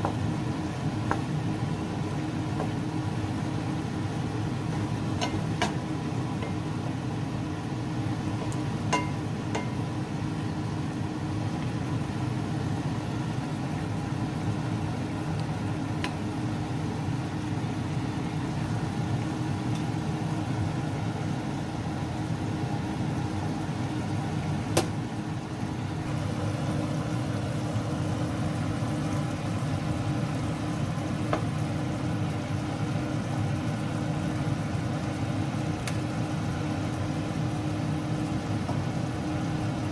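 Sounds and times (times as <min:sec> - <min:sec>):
steady low hum: 0:00.0 - 0:39.9
stew boiling in a pan: 0:00.0 - 0:39.9.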